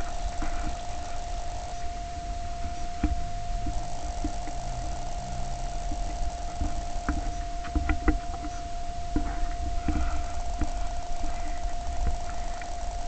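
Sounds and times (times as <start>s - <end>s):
steady whining tone: 0.0s - 13.0s.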